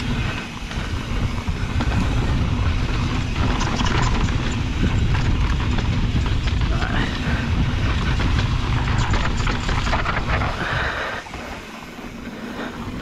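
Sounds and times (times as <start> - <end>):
bike rattling: 0.0 - 13.0
tyres skidding on loose dirt: 0.0 - 13.0
wind buffeting microphone: 0.0 - 13.0.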